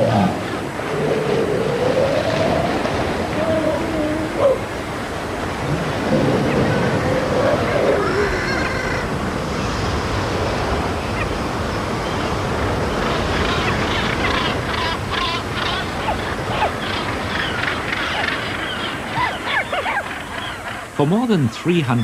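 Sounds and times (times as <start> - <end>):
seabirds calling harshly: 0.0 - 9.3, 12.0 - 21.2
sea surf washing: 0.0 - 22.0.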